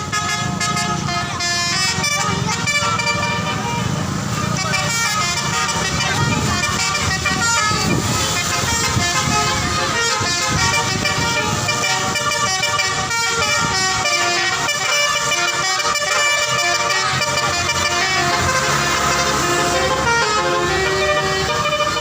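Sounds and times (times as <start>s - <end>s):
musical bus horn melody: 0.0s - 22.0s.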